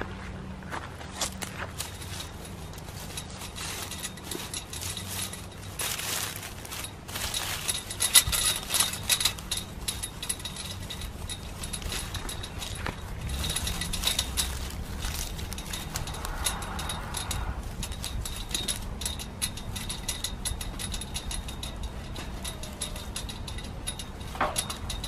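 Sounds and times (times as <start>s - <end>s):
dry leaves rustling: 0.0s - 25.0s
small metallic clicks: 1.2s - 25.0s
wire fencing clinking and rattling: 1.2s - 25.0s.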